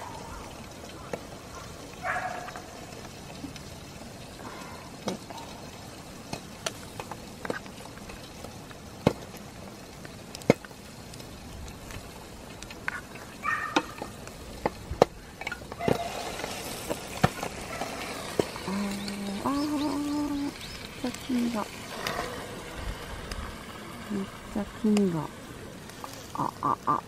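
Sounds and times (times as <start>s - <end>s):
food sizzling: 0.0s - 27.0s.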